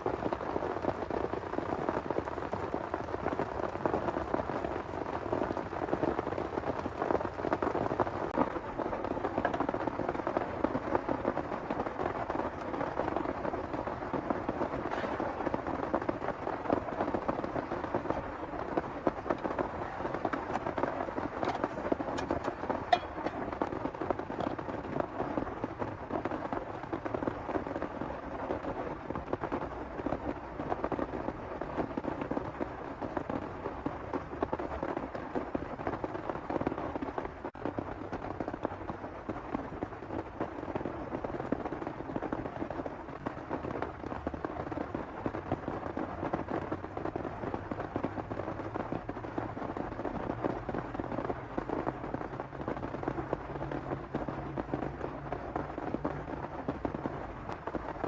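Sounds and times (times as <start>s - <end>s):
heavy rain on a surface: 0.0s - 58.0s.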